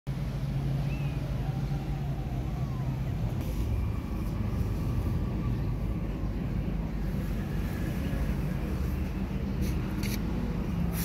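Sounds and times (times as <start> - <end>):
low mechanical rumble: 0.1 - 11.0.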